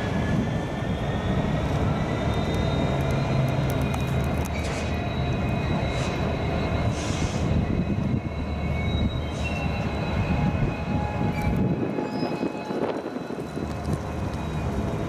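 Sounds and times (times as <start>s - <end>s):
locomotive engine rumble: 0.0s - 15.0s
steel wheels squealing on rails: 0.0s - 15.0s.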